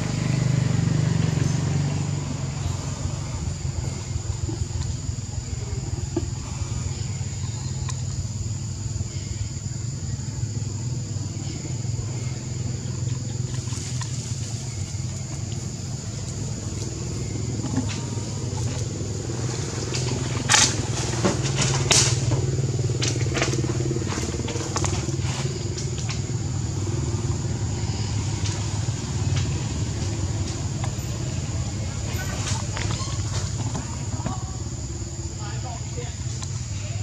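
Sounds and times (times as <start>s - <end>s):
low motor drone: 0.0s - 37.0s.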